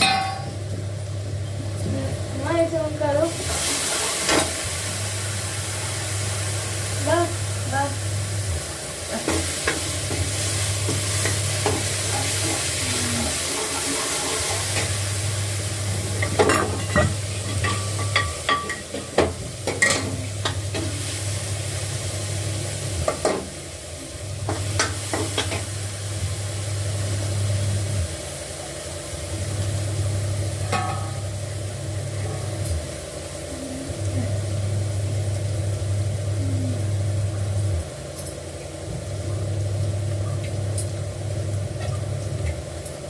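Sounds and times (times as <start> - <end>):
vegetables sizzling in a pan: 0.0 - 43.0.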